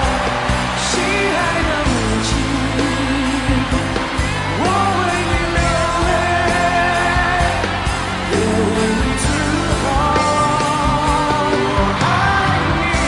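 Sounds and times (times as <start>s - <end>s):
band accompaniment: 0.0s - 13.0s.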